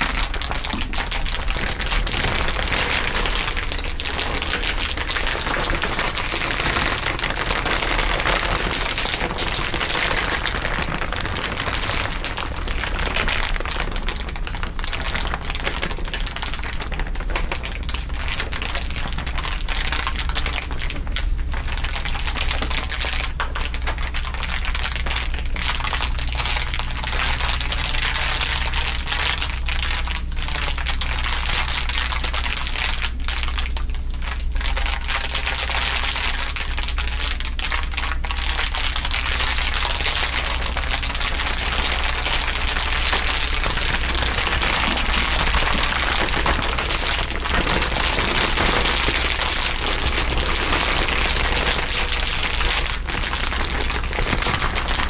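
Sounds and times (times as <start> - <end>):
dense crinkling: 0.0 - 55.0.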